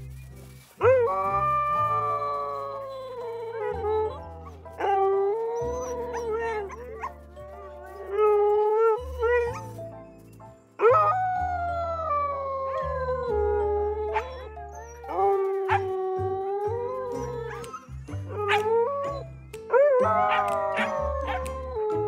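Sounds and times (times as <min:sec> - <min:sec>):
background music with low notes: 0:00.0 - 0:22.0
dogs howling: 0:00.8 - 0:09.7, 0:10.8 - 0:22.0.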